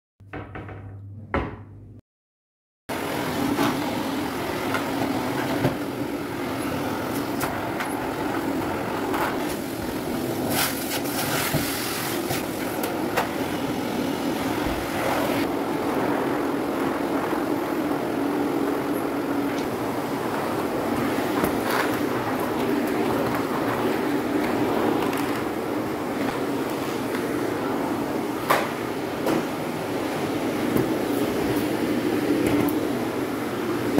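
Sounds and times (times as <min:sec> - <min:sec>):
vacuum cleaner running: 0:02.9 - 0:33.9.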